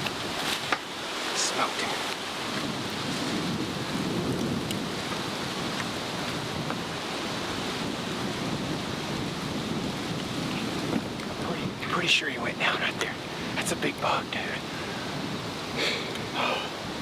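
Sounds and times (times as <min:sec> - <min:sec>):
wind blowing over microphone: 0:00.0 - 0:17.0.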